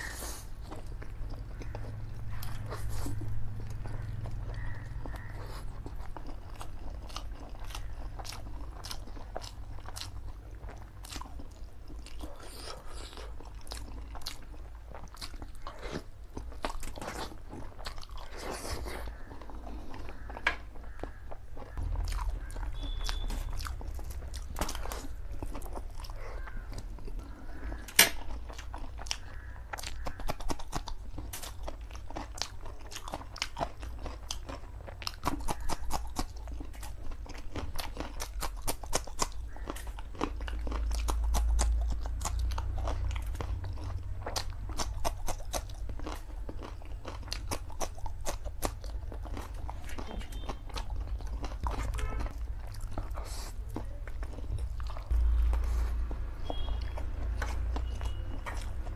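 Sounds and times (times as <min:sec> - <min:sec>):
wet chewing and smacking: 0:00.0 - 0:58.9.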